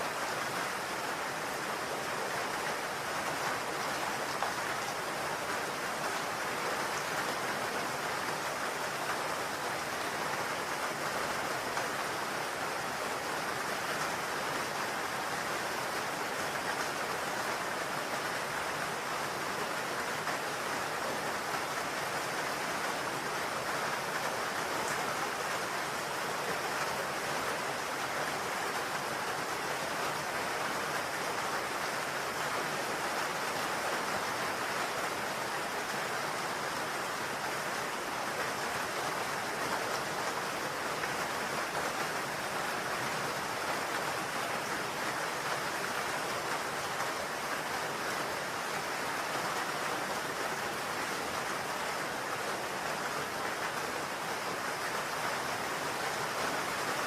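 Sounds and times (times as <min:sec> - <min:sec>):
rain on a roof: 0:00.0 - 0:57.0.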